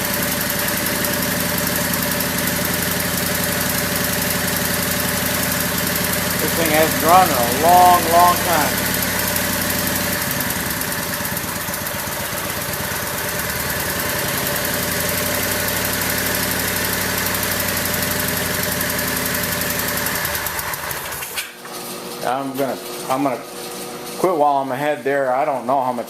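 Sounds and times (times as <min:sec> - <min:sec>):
small gasoline engine idling: 0:00.0 - 0:25.6.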